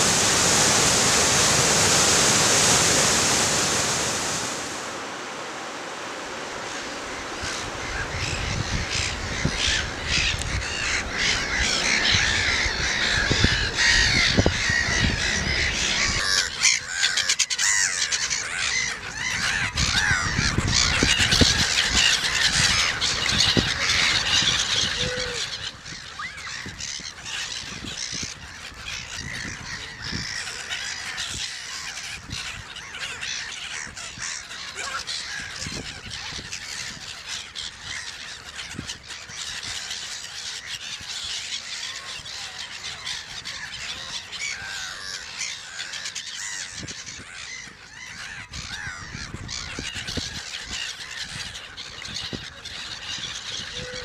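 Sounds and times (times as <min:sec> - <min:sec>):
gulls calling harshly: 0:00.0 - 0:54.0
chorus of bird chirps: 0:07.2 - 0:54.0.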